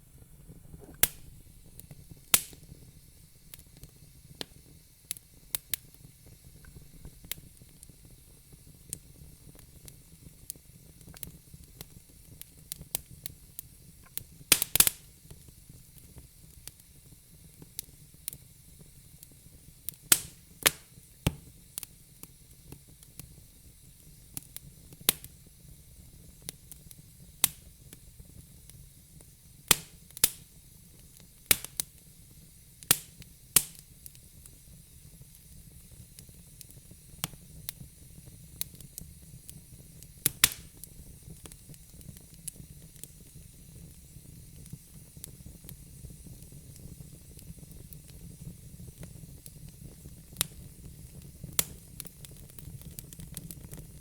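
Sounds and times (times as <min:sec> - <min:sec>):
faint steady hiss: 0:00.0 - 0:54.0
fire crackling with pops: 0:00.0 - 0:54.0.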